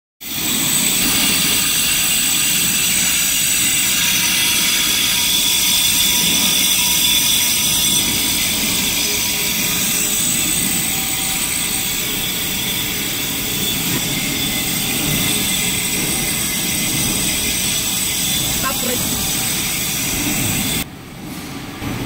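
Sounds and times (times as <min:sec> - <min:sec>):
bench grinder whining: 0:00.2 - 0:20.8
tool bit grinding on wheel: 0:00.2 - 0:20.8.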